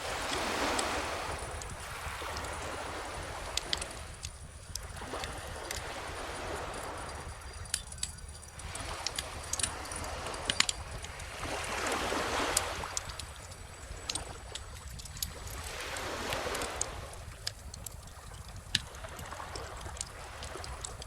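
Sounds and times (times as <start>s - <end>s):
ocean waves washing ashore: 0.0s - 21.0s
bonfire crackling and popping: 0.7s - 5.9s, 6.7s - 21.0s.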